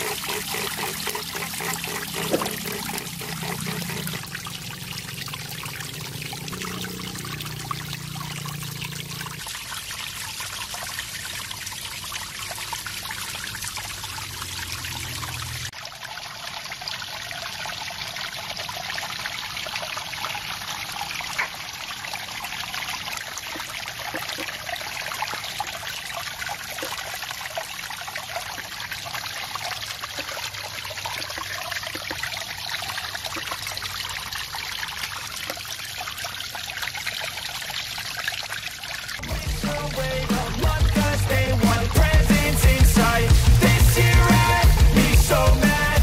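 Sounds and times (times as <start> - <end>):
water splashing through water-wheel: 0.0 - 46.0.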